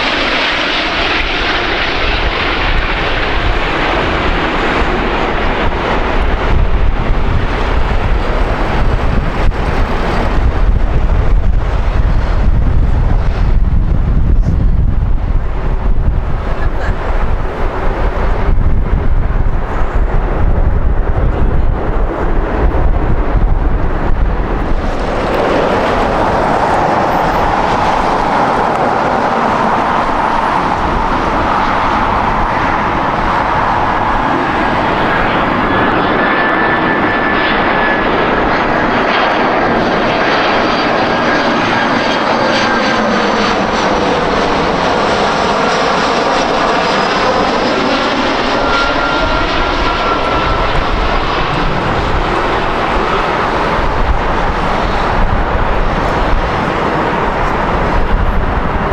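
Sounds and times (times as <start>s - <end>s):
high jet engine whine: 0.0s - 58.9s
jet engine roar: 0.0s - 58.9s.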